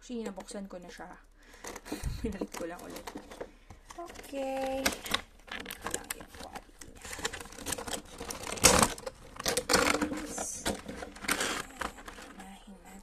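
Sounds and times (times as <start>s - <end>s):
plastic packaging crinkling: 1.5s - 13.0s.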